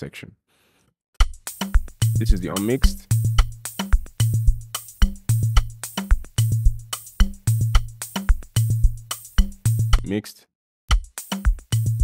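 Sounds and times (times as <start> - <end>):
kick drum with ringing bass tail: 1.2 - 10.0, 10.9 - 12.0.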